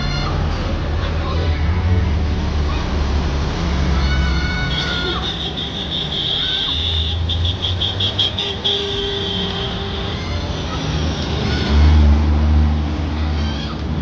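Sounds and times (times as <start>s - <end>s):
tractor engines droning: 0.0s - 14.0s.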